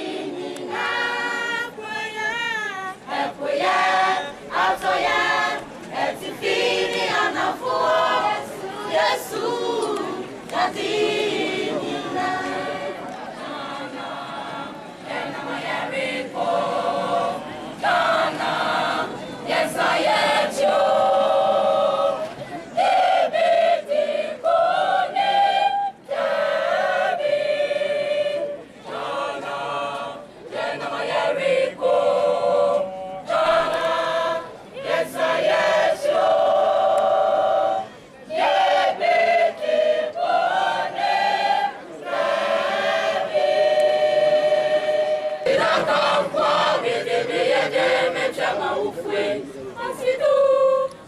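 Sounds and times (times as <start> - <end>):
choir singing unaccompanied: 0.0 - 51.0.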